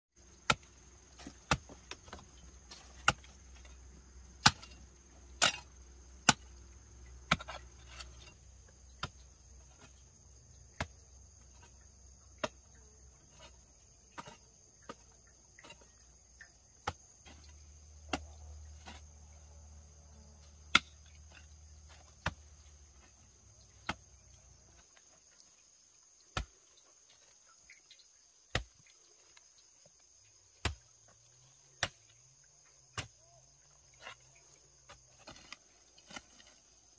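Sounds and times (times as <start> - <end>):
crickets chirring: 0.2 - 36.9.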